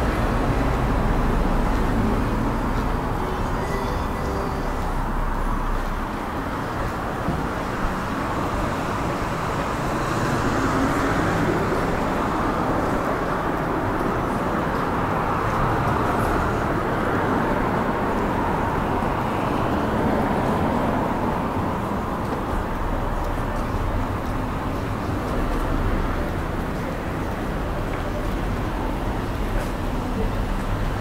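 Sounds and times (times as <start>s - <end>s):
cars driving by: 0.0s - 31.0s.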